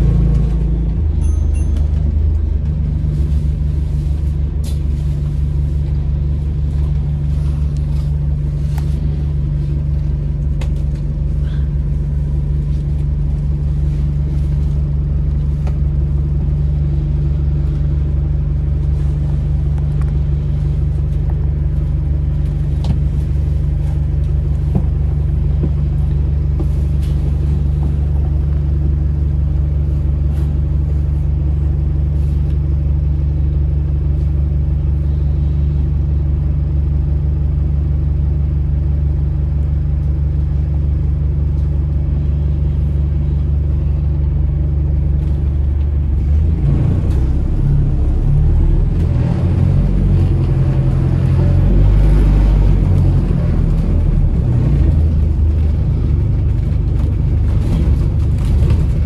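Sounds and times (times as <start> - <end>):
bus engine droning: 0.0 - 59.0.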